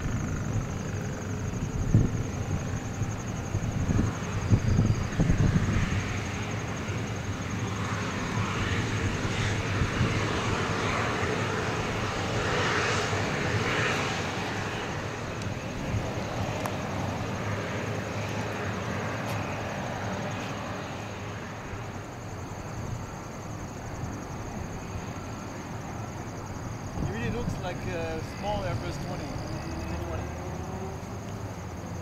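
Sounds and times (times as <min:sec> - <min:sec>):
jet taxiing hiss: 0:00.0 - 0:31.5
crickets trilling: 0:00.0 - 0:32.0.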